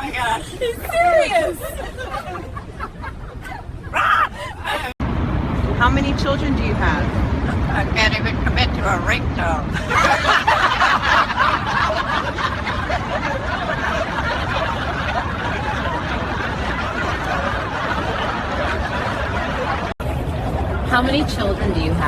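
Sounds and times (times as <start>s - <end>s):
people laughing: 0.0s - 5.0s, 7.4s - 8.1s, 9.4s - 21.6s
low background rumble: 0.0s - 22.0s.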